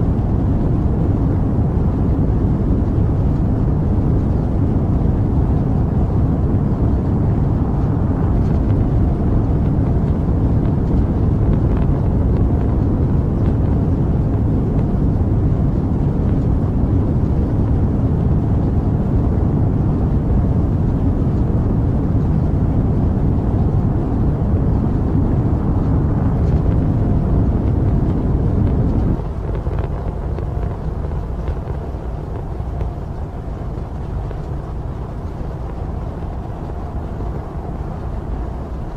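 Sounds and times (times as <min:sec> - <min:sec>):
rocket engines rumbling: 0:00.0 - 0:38.9.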